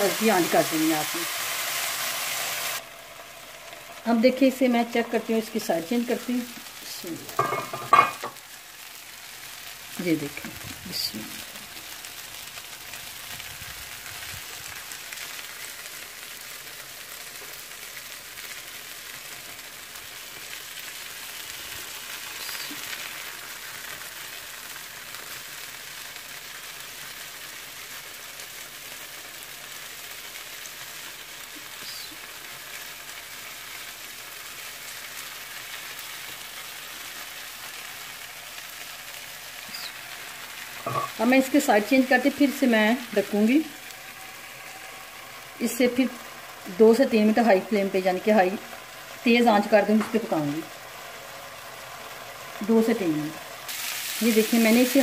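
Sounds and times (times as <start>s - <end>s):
chicken sizzling on a griddle: 0.0s - 55.0s.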